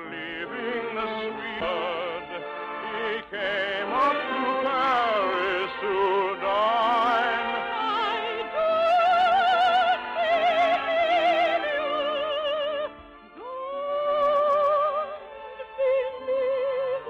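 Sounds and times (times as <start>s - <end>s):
operetta singing: 0.0s - 17.0s
orchestra playing: 0.0s - 17.0s.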